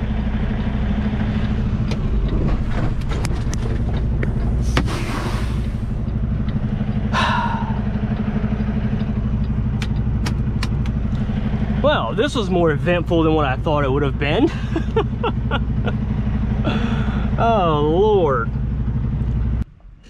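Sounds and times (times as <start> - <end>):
truck diesel engine idling: 0.0 - 19.6.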